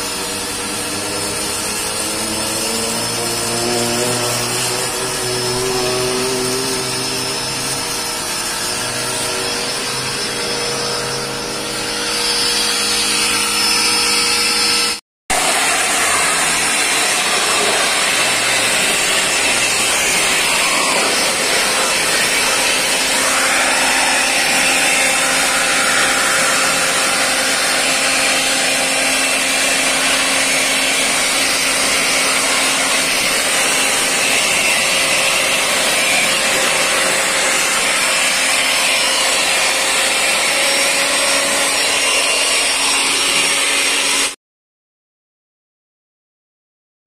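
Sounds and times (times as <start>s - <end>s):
electric motor humming: 0.0s - 44.3s.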